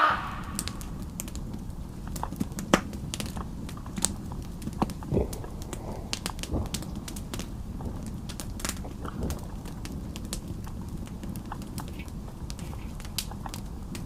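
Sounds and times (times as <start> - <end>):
low steady rumble: 0.0 - 14.0
sharp clicks and crackles: 0.3 - 14.0.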